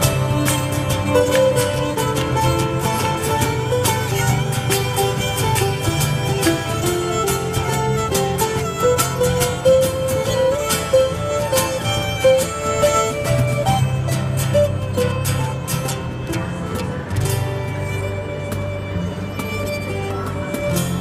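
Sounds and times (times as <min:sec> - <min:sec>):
cajon beat: 0:00.0 - 0:21.0
electric guitars: 0:00.0 - 0:21.0
fiddle melody: 0:00.0 - 0:21.0
strummed acoustic guitar: 0:00.0 - 0:21.0.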